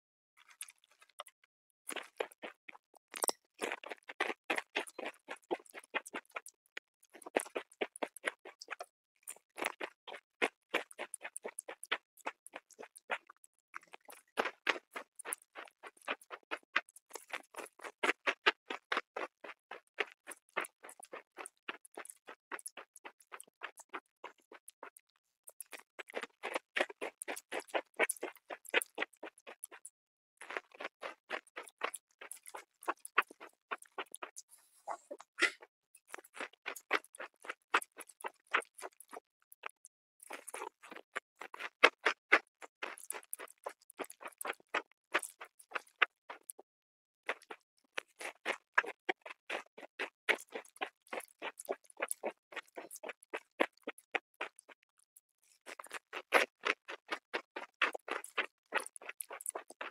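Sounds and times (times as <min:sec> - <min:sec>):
chips crunching while chewed: 0:01.9 - 0:23.9, 0:25.5 - 0:34.4, 0:35.4 - 0:46.6, 0:47.3 - 0:54.8, 0:55.5 - 0:59.9.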